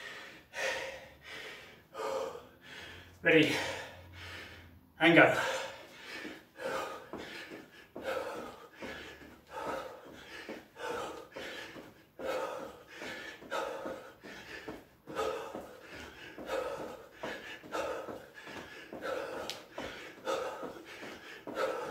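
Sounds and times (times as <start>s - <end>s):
man breathing hard: 0.0s - 21.9s.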